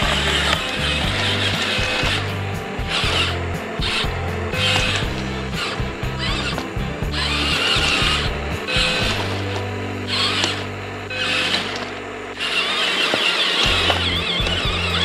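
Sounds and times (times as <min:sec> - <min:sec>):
background music: 0:00.0 - 0:15.0
small electric motors whirring: 0:00.0 - 0:15.0.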